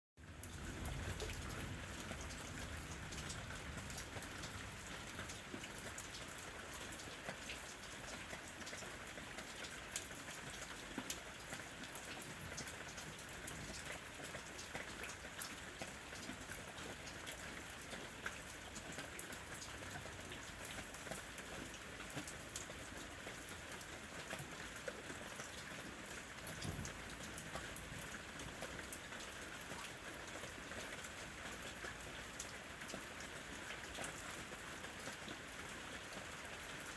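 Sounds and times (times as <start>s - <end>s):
raindrops ticking on hard surface: 0.2s - 36.9s
steady rain patter: 0.2s - 36.9s.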